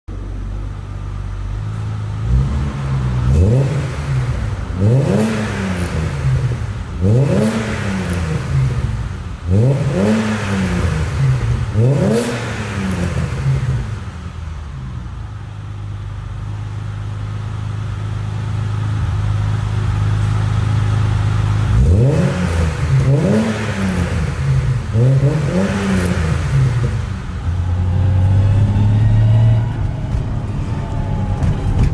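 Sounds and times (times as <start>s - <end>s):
car engine idling and revving: 0.1s - 31.9s.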